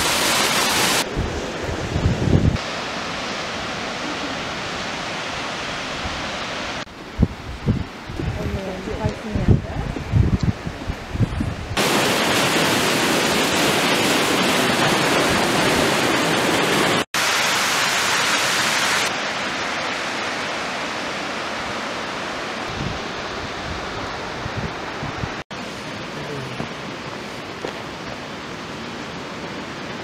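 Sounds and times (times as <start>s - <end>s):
waterfall rushing: 0.0s - 6.9s, 11.8s - 30.0s.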